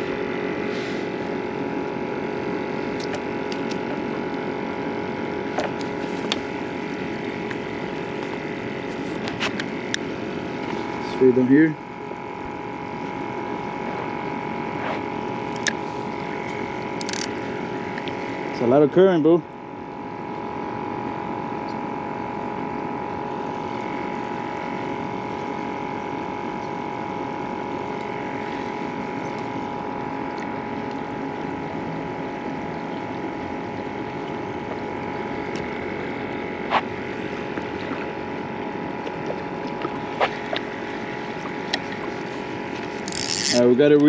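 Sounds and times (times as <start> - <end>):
machinery humming: 0.0 - 44.0.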